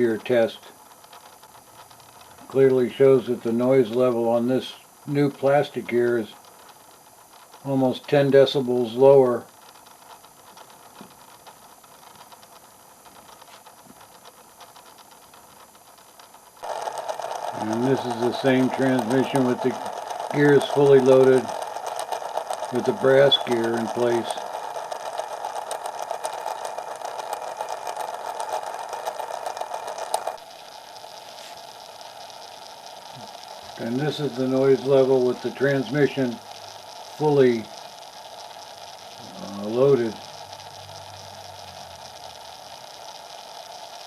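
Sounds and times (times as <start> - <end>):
gear transmission whirring: 0.0 - 44.0.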